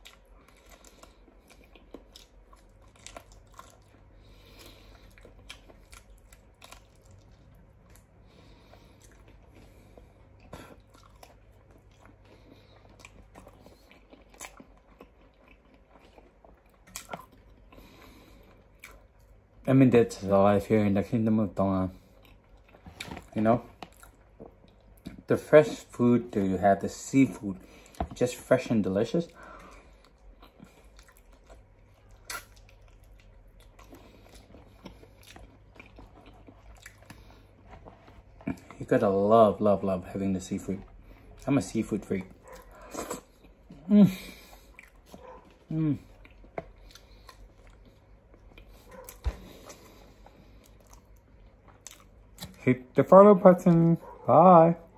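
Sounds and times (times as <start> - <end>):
chewing close-up: 0.0 - 19.6, 21.9 - 28.4, 29.1 - 52.7.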